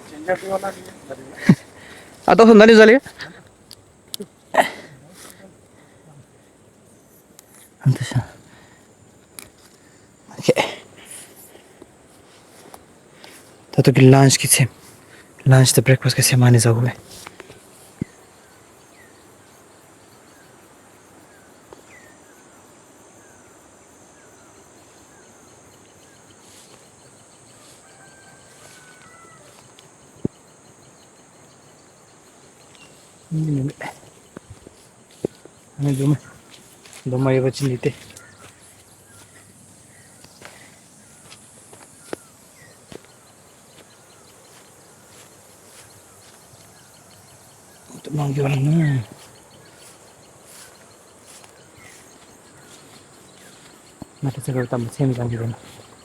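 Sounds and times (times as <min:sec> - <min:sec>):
high insect buzz: 0:00.0 - 0:56.0.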